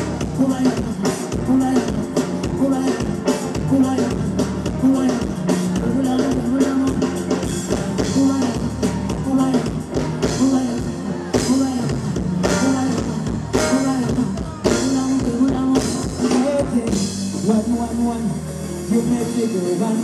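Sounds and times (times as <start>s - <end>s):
live band dance music: 0.0s - 20.0s.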